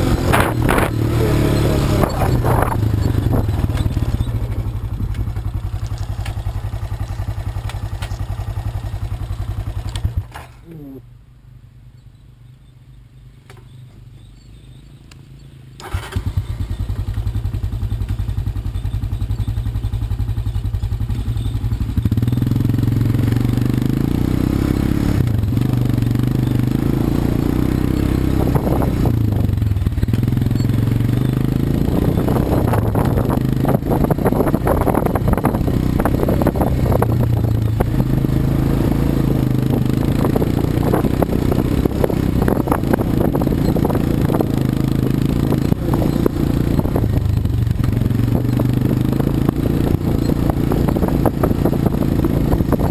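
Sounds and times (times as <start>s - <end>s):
quad bike engine running: 0.0s - 11.2s, 14.2s - 52.9s.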